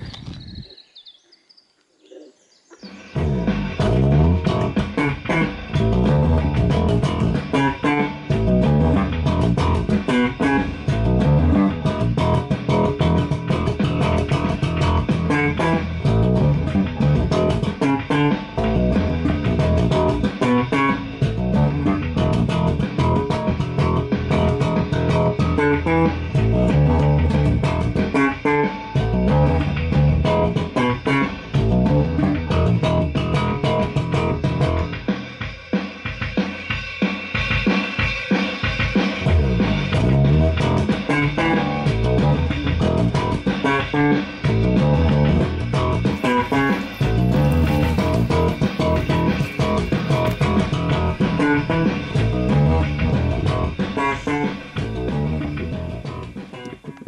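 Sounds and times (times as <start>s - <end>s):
instrumental guitar and bass music: 0.0s - 0.8s, 2.7s - 57.0s.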